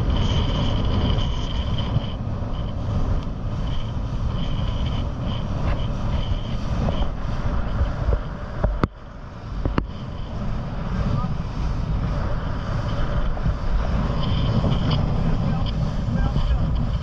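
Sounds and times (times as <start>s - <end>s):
motorboat engine running: 0.0s - 17.0s
wind buffeting microphone: 0.0s - 17.0s.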